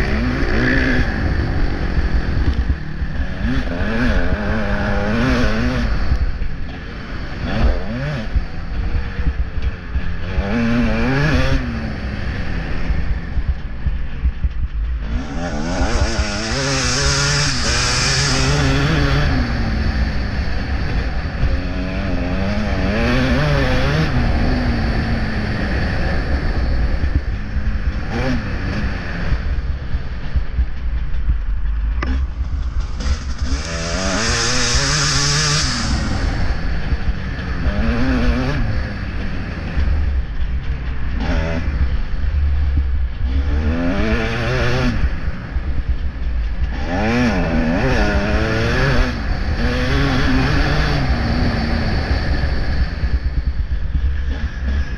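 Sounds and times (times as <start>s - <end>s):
motocross bike engine revving: 0.0s - 54.9s
steady low rumble: 0.0s - 54.9s.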